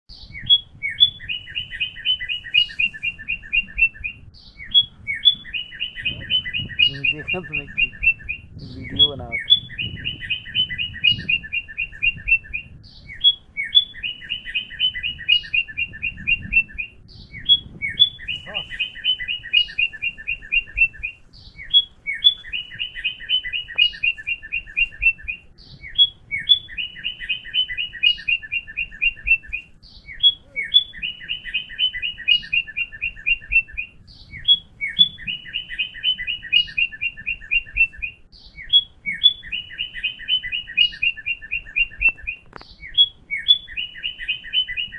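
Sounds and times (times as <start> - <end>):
bird singing: 0.1 - 44.9.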